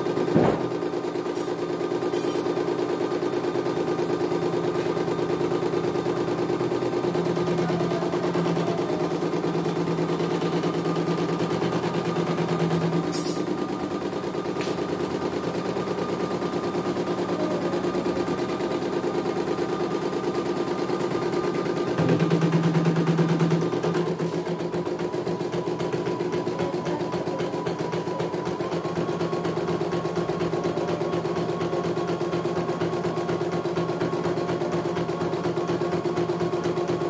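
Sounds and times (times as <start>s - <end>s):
motor humming: 4.7s - 35.4s.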